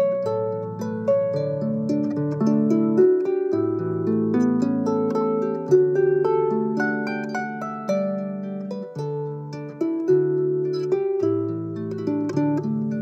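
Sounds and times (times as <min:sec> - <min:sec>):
harp melody: 0:00.0 - 0:13.0.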